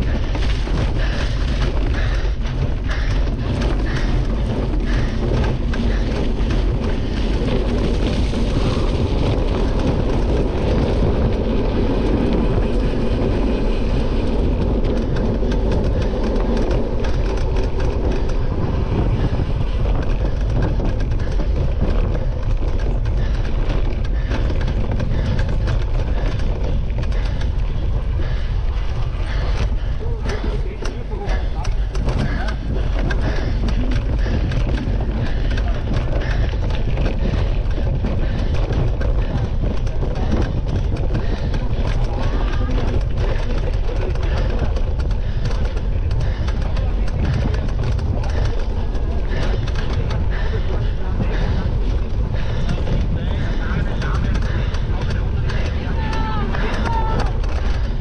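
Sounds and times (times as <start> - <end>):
bike rattling over bumps: 0.0 - 58.0
wind and tyre noise: 0.0 - 58.0.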